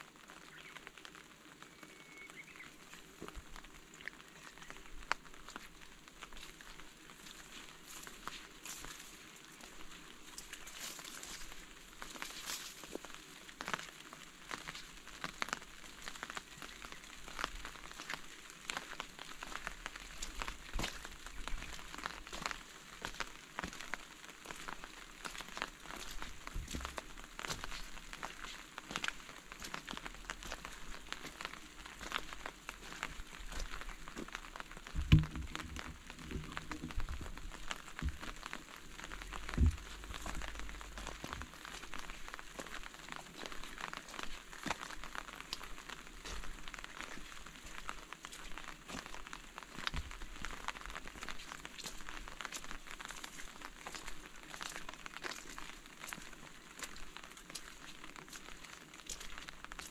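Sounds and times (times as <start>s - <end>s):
rain drops ticking: 0.0s - 59.9s.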